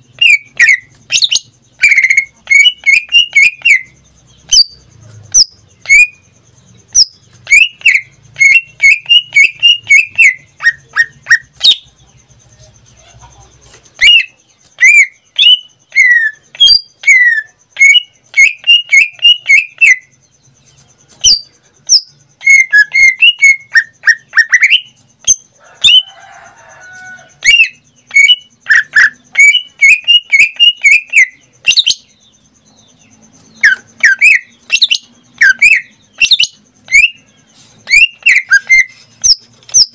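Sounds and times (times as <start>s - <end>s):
bird singing whistled chirps: 0.0s - 26.1s, 27.5s - 39.9s.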